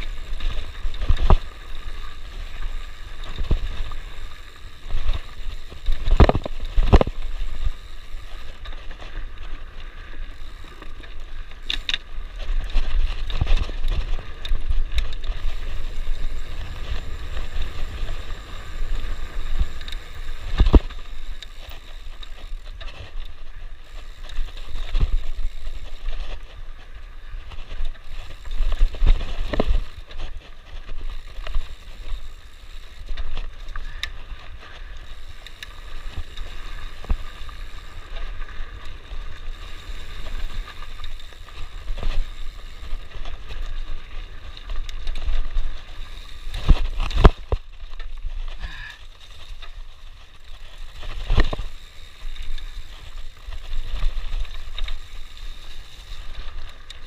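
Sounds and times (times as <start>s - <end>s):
bike tyre rumble on dirt: 0.0s - 57.0s.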